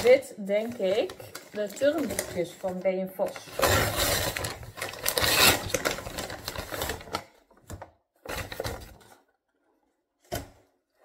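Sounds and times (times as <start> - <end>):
packaging rustling and crinkling: 0.0 - 9.4.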